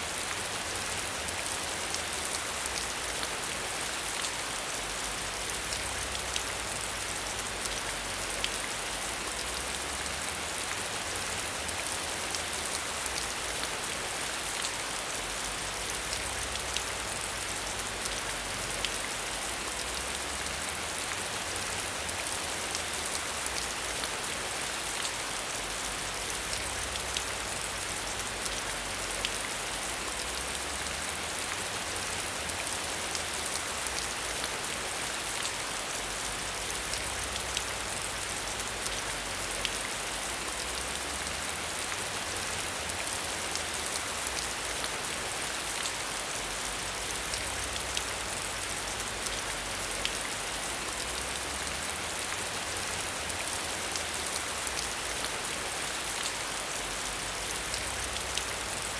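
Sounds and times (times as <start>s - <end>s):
rain behind a window: 0.0s - 58.9s.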